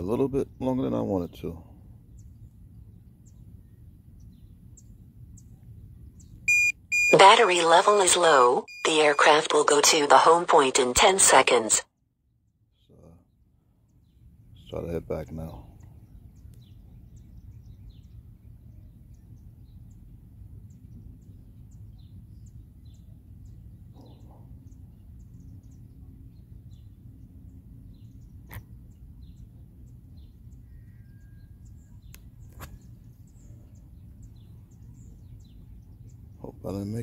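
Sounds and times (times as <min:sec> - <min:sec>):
small birds chirping: 0:00.0 - 0:09.8, 0:12.7 - 0:37.0
low outdoor rumble: 0:00.0 - 0:11.8, 0:12.7 - 0:37.0.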